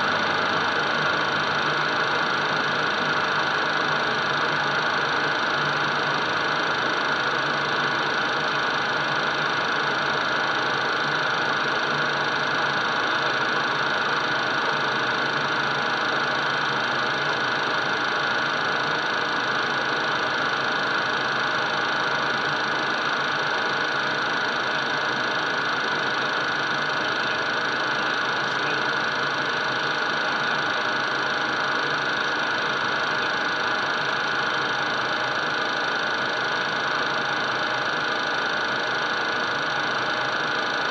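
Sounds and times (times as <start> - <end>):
jet engine noise with high whine: 0.0 - 40.9.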